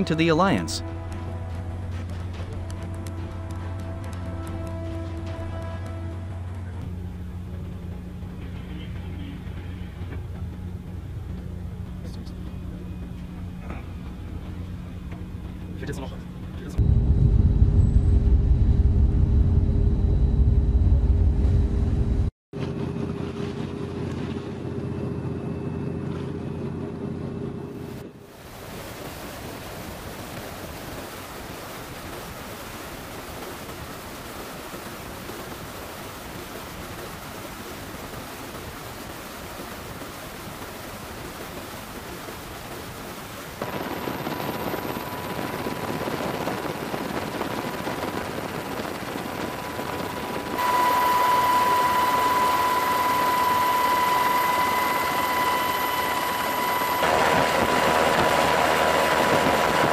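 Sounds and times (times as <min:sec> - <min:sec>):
jet engine high whine: 0:00.0 - 0:23.1, 0:23.7 - 0:29.8, 0:36.4 - 0:59.9
military aircraft rushing in flight: 0:00.0 - 0:59.9.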